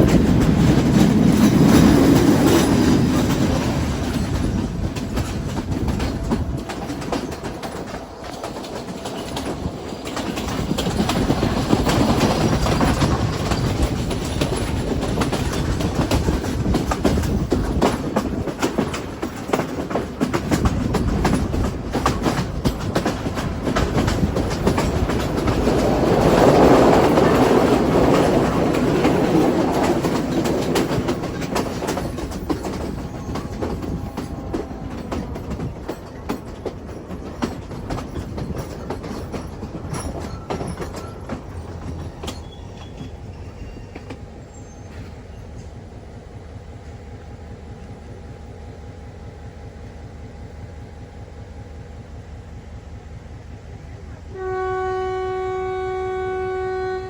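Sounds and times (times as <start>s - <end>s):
train wheels clacking over rail joints: 0.0s - 46.1s
train rumbling: 0.0s - 57.0s.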